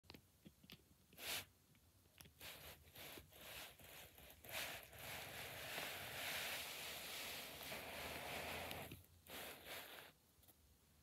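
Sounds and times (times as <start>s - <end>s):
soft rustling hiss: 0.1s - 11.0s.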